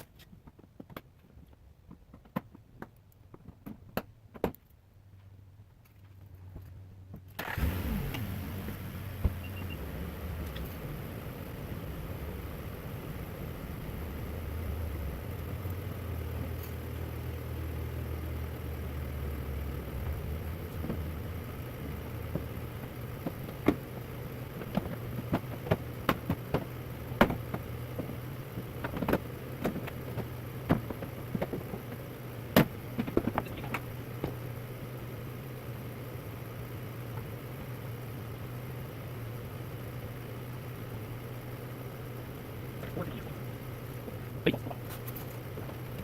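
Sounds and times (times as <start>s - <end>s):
steady low hum: 3.0s - 46.0s.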